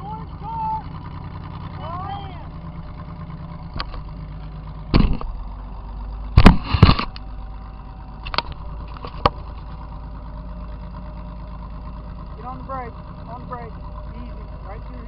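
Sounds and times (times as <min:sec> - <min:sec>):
car engine running low: 0:00.0 - 0:15.0.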